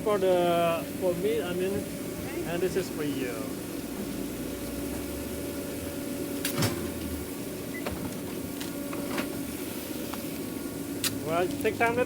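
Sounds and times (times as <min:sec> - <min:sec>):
kitchen equipment hum: 0:00.0 - 0:12.0.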